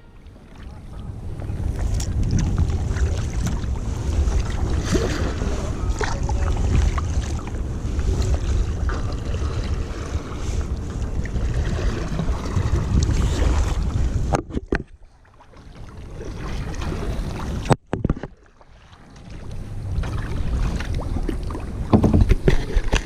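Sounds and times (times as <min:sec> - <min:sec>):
wind rumbling on microphone: 0:00.0 - 0:18.4, 0:19.0 - 0:23.0
water sounds from kayak: 0:00.0 - 0:23.0.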